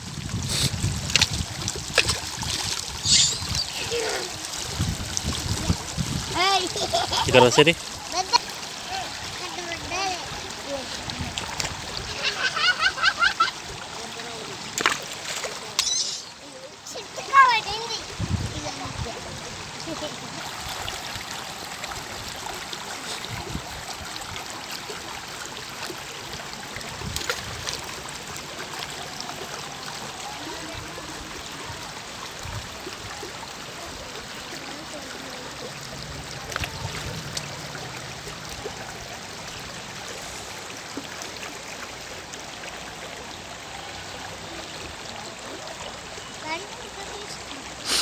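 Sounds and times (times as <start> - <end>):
running water rushing: 0.0 - 48.0
small water splashes: 0.0 - 48.0.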